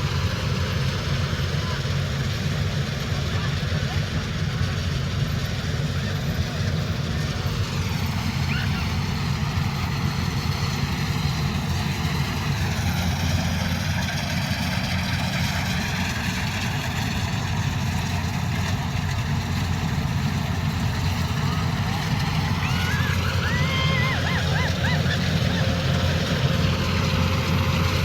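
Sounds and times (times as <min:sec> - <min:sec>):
diesel engine running under load: 0:00.0 - 0:28.0.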